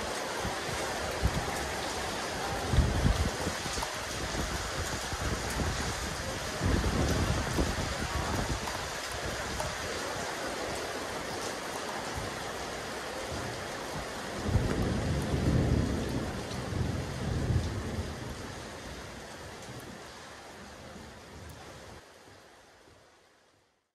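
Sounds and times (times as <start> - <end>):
rain falling on rooftop: 0.0 - 23.9.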